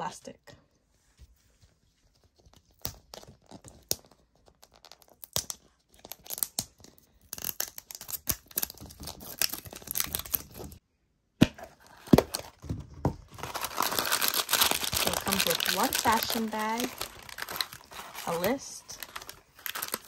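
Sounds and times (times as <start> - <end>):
plastic wrap crinkling and tearing: 2.2 - 10.8, 11.7 - 20.0.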